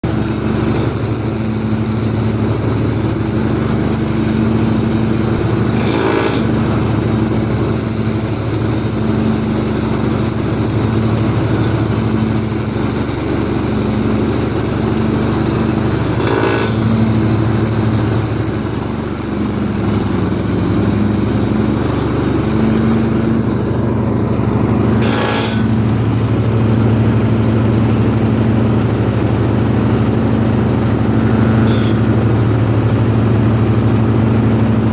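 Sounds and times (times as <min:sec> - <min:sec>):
metal grinding from mower deck: 0:00.0 - 0:34.9
riding mower engine hum: 0:00.0 - 0:34.9
sharp metal scrapes: 0:00.1 - 0:09.5, 0:10.3 - 0:26.6, 0:29.7 - 0:33.9.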